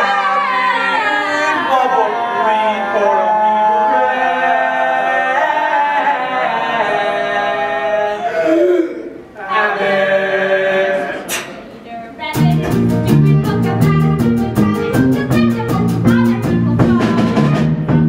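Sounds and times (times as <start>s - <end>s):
voices singing in harmony: 0.0s - 18.0s.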